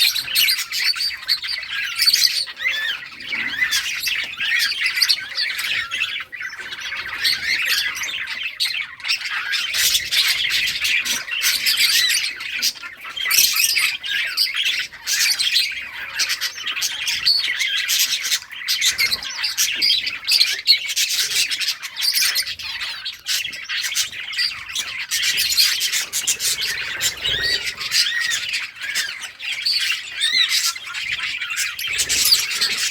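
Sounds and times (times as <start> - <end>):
budgerigars chattering and chirping: 0.0 - 32.9.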